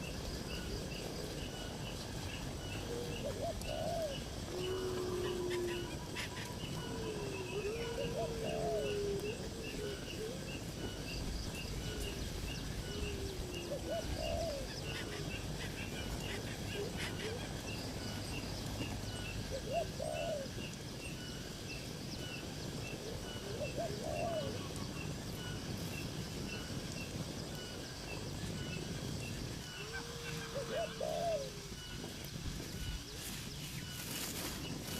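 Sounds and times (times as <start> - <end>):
background hiss: 0.0 - 34.9.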